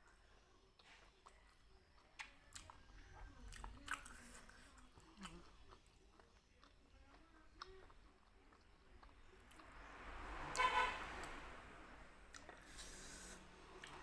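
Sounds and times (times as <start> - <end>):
person chewing food: 0.0 - 10.0, 12.2 - 14.0.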